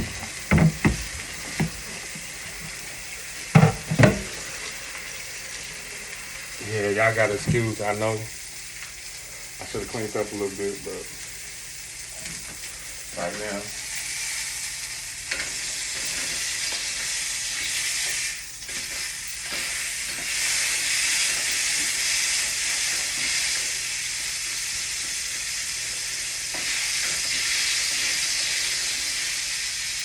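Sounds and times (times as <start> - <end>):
food sizzling in a pan: 0.0 - 30.0.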